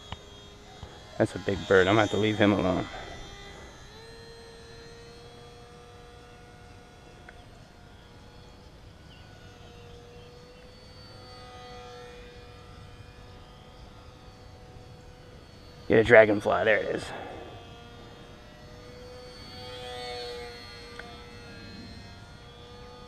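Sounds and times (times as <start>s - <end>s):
model plane motor whine: 0.0s - 23.0s.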